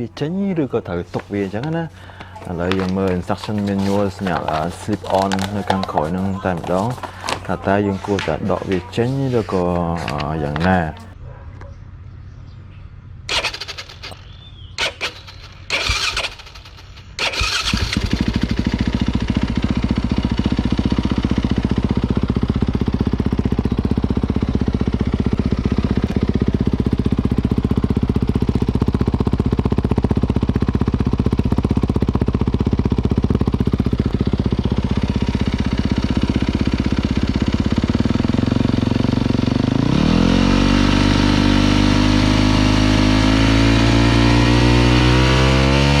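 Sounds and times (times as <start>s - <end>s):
dirt bike engine idling: 0.0s - 11.2s, 13.3s - 46.0s.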